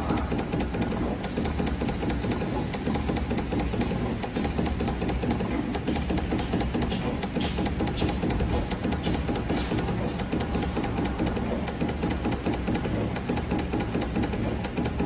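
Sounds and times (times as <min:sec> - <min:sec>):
low machine hum: 0:00.0 - 0:15.0
rapid regular ticking: 0:00.0 - 0:15.0.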